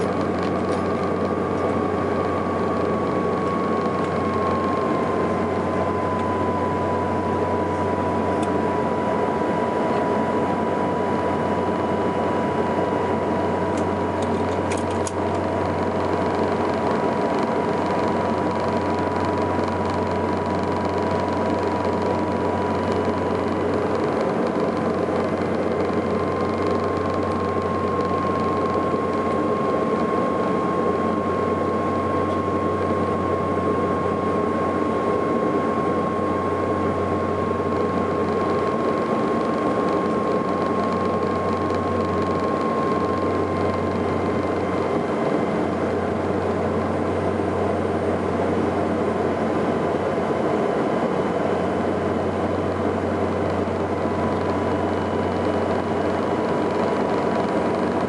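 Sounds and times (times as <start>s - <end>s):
propeller engines droning: 0.0s - 58.0s
thin high whine: 0.0s - 58.0s.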